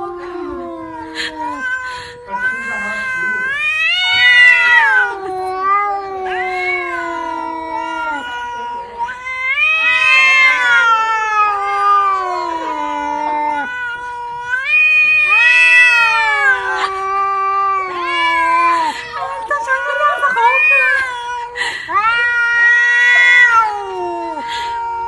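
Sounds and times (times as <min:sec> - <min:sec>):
cats yowling: 0:00.0 - 0:25.0.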